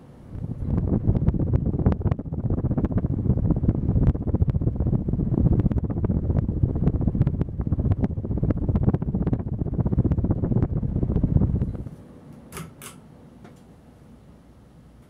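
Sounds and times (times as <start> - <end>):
ceiling fan rumbling: 0.0 - 15.0.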